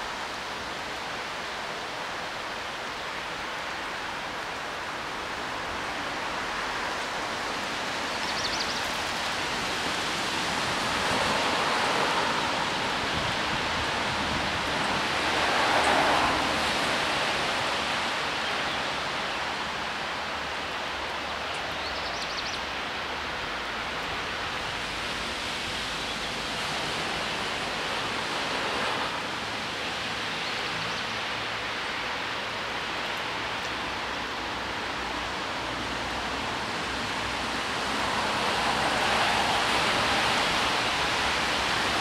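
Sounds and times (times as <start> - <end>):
steady rushing noise: 0.0 - 22.0, 22.6 - 42.0.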